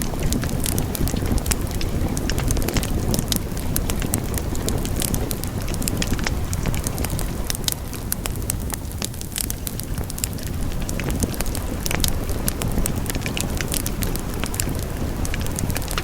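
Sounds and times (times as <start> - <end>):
burning logs crackling and popping: 0.0 - 16.0
fire flames rumbling: 0.0 - 16.0.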